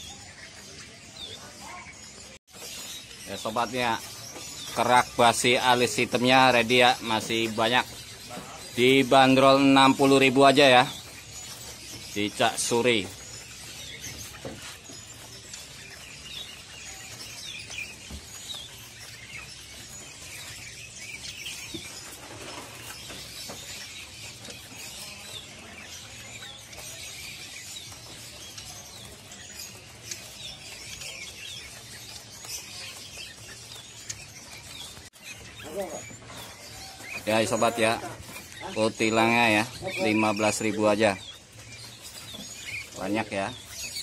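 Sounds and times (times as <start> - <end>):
songbirds chirping and twittering: 0.0 - 44.0.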